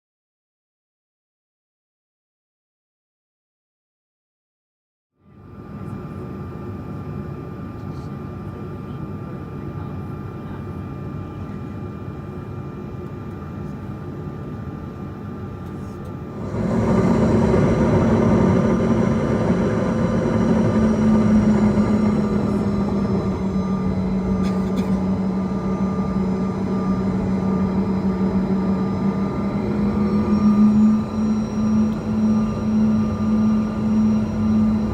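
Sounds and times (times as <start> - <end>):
jet engines droning: 5.3 - 34.9.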